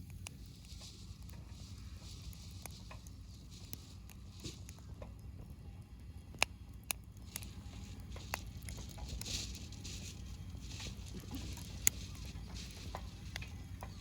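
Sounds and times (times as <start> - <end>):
campfire crackling: 0.0 - 14.0
soft fire hiss: 0.0 - 14.0.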